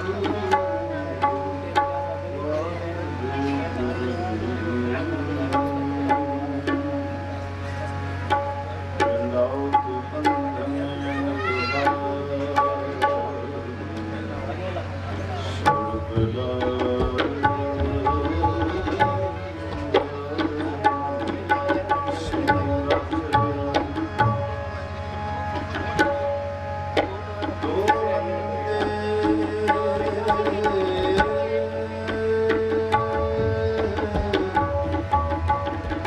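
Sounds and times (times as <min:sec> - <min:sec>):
tabla strokes: 0:00.0 - 0:14.1, 0:14.8 - 0:36.0
harmonium held notes: 0:00.0 - 0:36.0.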